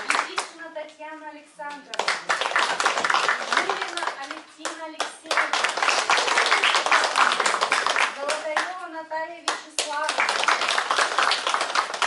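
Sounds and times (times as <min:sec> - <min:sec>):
small audience clapping: 0:00.0 - 0:00.6, 0:01.9 - 0:08.8, 0:09.5 - 0:12.0.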